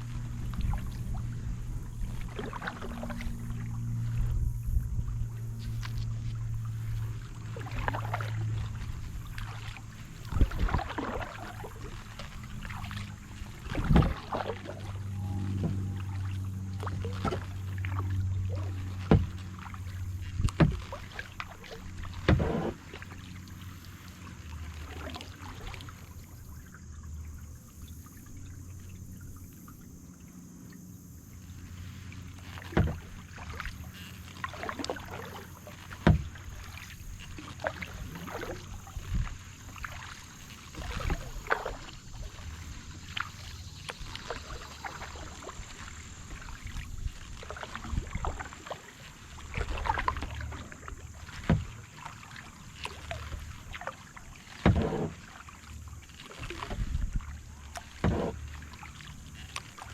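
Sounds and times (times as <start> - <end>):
paddle splashing in water: 0.0 - 59.9
water dripping from paddle: 0.0 - 59.9.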